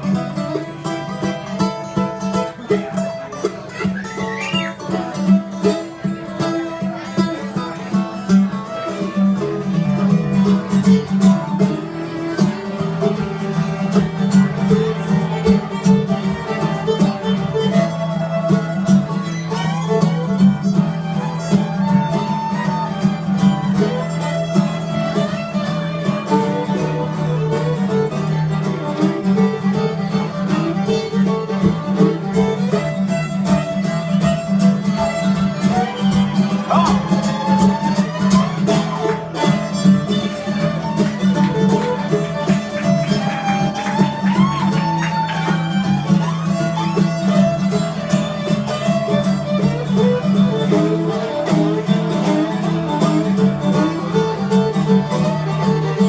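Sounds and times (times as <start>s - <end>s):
fiddle melody: 0.0s - 56.0s
strummed guitar: 0.0s - 56.0s.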